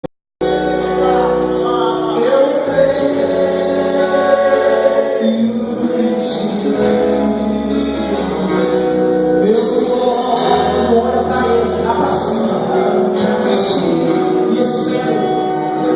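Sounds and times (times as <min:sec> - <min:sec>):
group singing gospel music: 0:00.4 - 0:15.9.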